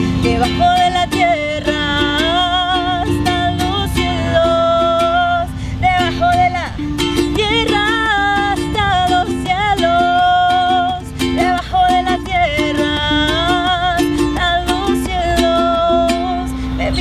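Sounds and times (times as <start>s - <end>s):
person singing long notes: 0.0s - 17.0s
strummed ukulele: 0.0s - 17.0s.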